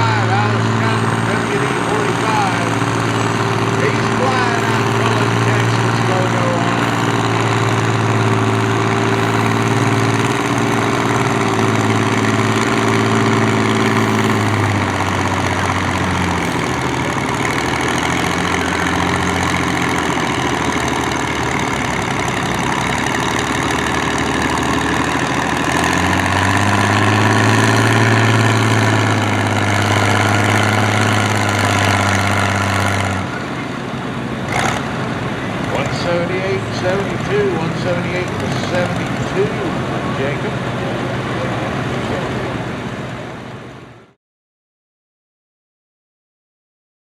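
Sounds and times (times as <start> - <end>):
tractor engine under load: 0.0 - 44.2.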